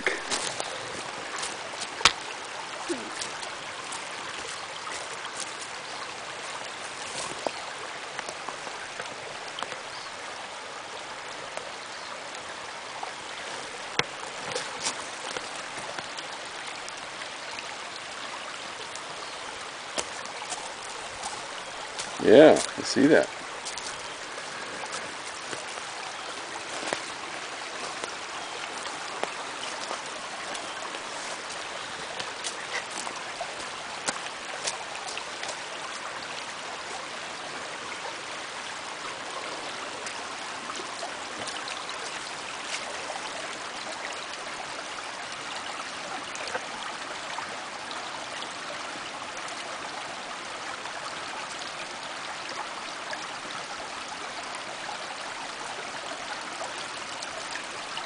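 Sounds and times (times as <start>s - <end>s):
creek flowing over rocks: 0.0s - 58.0s.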